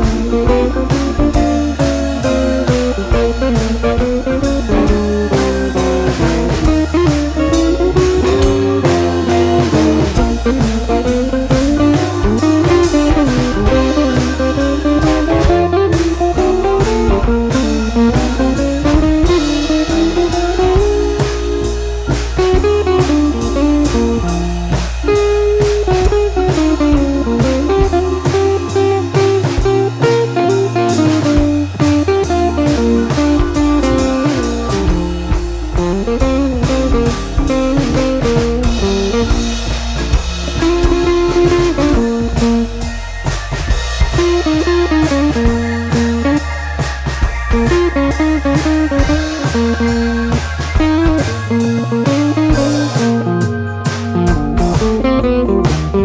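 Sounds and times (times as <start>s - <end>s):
blues lead guitar melody: 0.0s - 56.0s
steady drum beat: 0.0s - 56.0s.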